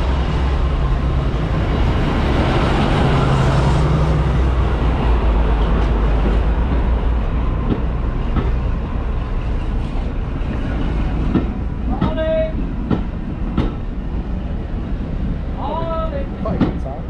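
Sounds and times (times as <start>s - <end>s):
diesel locomotive engine drone: 0.0s - 17.0s
train coaches rumbling: 0.0s - 17.0s.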